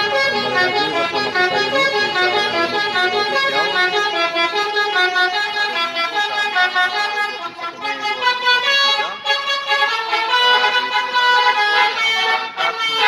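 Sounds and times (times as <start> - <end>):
multi-tone musical air horn: 0.0 - 13.0.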